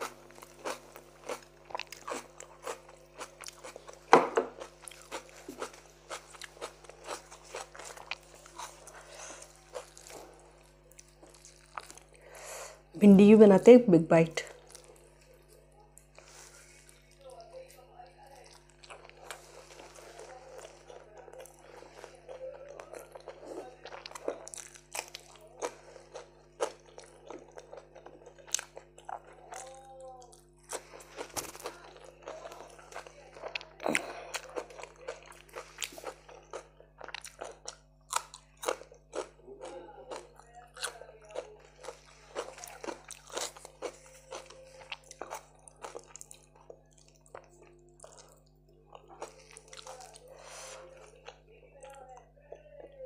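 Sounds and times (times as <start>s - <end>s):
crunchy chewing: 0.0s - 12.4s, 14.5s - 53.0s.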